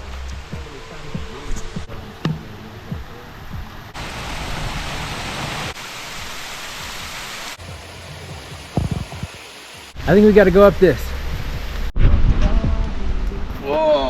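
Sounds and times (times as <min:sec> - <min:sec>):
creek water rushing: 0:00.0 - 0:11.9.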